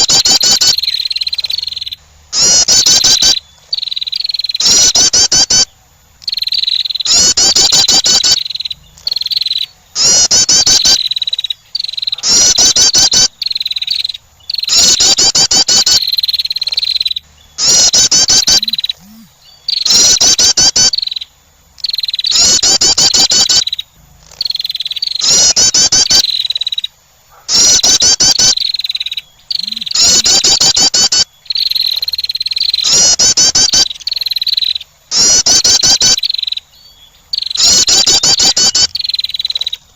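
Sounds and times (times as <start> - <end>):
wren trilled call: 0.0 - 39.9.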